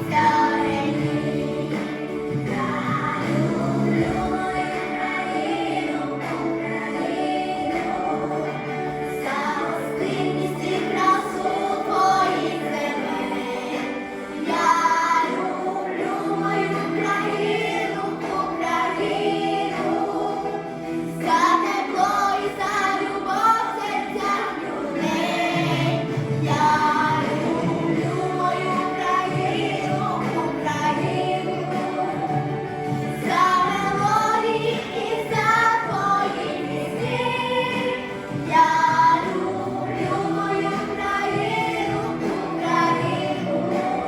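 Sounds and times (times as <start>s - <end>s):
voices singing with accompaniment: 0.0s - 44.0s.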